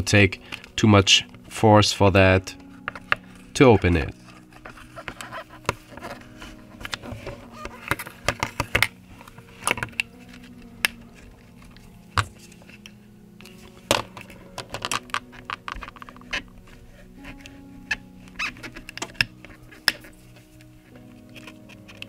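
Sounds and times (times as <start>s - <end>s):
opening pick clicking and scraping: 2.8s - 22.0s.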